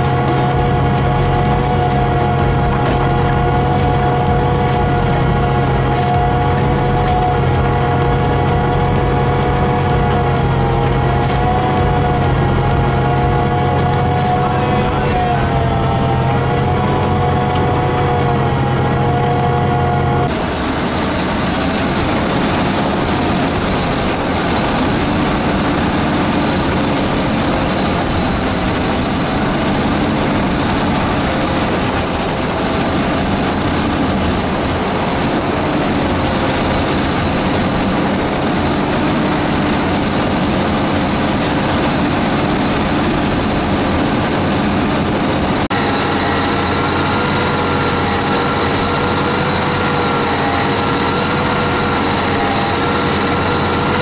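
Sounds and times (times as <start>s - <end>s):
heavy rumble and rushing noise: 0.0s - 54.0s
tractor diesel engine running: 0.0s - 54.0s.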